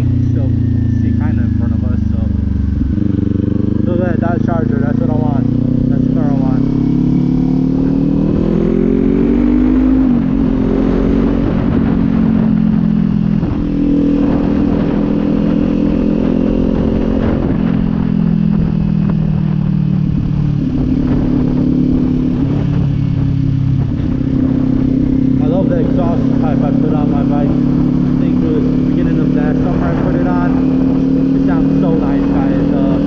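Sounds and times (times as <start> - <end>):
motorcycle engine while riding: 0.0 - 33.0.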